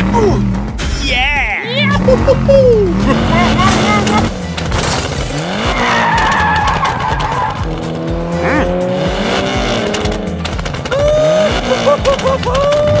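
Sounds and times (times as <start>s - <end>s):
background music: 0.0s - 13.0s
car engine revving: 1.7s - 13.0s
tire screech: 1.8s - 13.0s.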